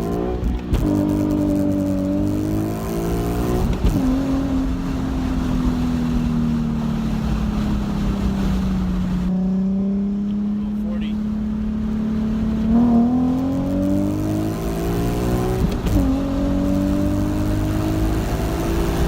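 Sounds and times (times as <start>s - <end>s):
car engine revving while driving: 0.0s - 19.0s.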